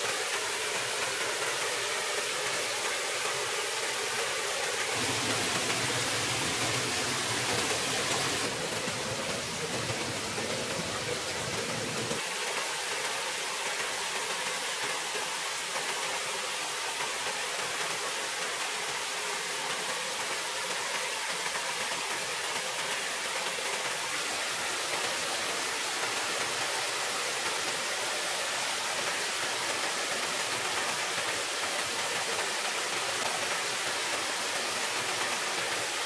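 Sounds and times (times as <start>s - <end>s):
stream splashing over rocks: 0.0s - 36.0s.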